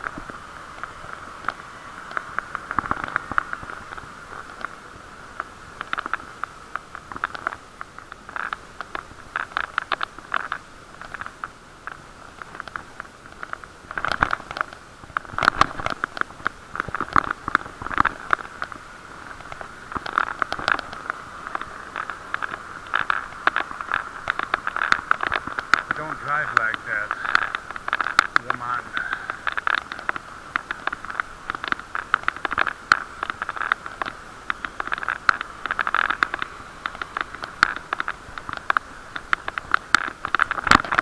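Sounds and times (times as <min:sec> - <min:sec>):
muffled riding hum: 0:00.0 - 0:41.0.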